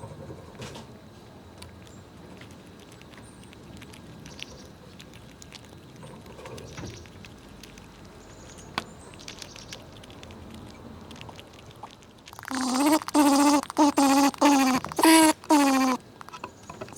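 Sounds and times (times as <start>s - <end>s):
squirrels cracking nuts: 1.5s - 16.9s.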